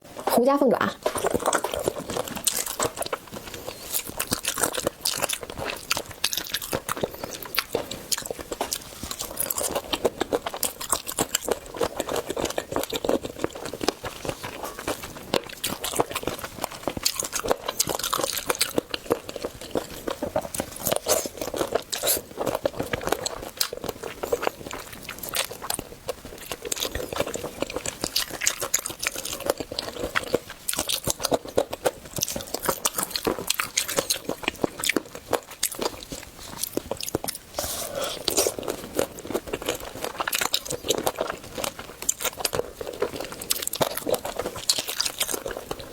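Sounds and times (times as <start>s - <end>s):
person biting and crunching: 1.0s - 45.9s.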